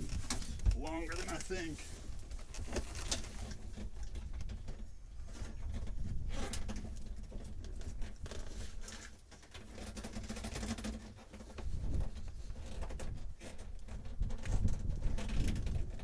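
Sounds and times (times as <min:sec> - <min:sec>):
wiring rustling and clicking: 0:00.0 - 0:16.0.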